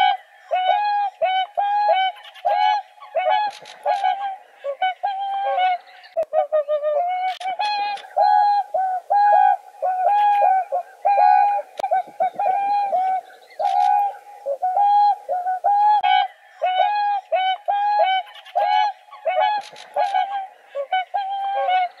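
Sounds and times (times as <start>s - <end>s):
swans calling: 0.0s - 22.0s.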